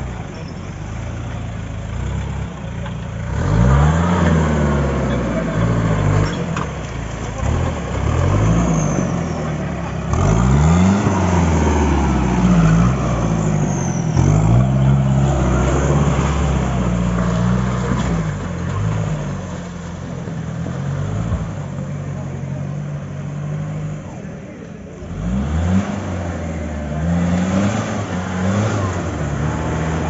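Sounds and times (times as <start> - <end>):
jeep engine revving: 0.0 - 30.0.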